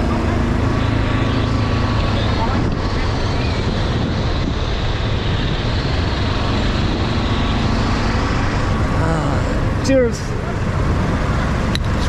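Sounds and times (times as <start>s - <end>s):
vehicle driving at speed: 0.0s - 12.0s
wind and road noise: 0.0s - 12.0s.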